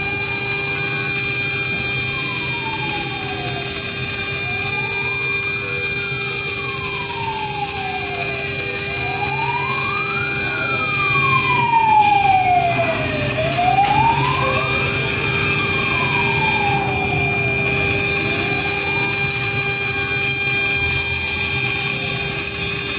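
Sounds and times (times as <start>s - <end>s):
spindle whine: 0.0s - 22.9s.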